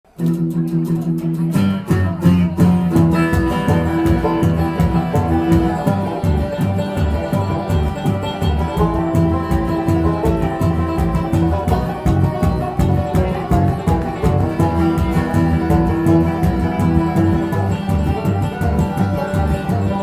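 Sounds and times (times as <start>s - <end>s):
bluegrass string band playing: 0.1s - 20.0s.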